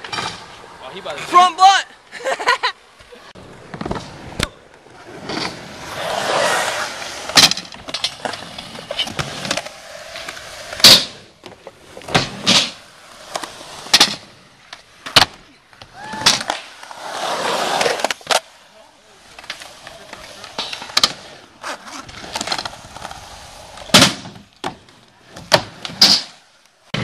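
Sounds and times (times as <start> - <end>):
skateboard rolling on concrete: 0.0 - 27.0.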